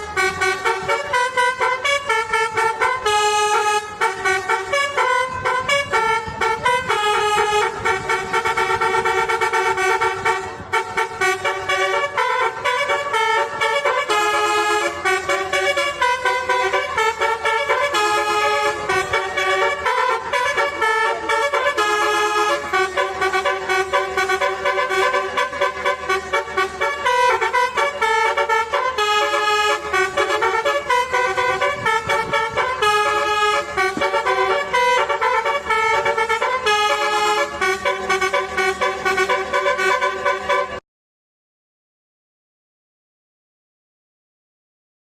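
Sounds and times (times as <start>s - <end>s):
fast horn-like melody: 0.0s - 40.8s.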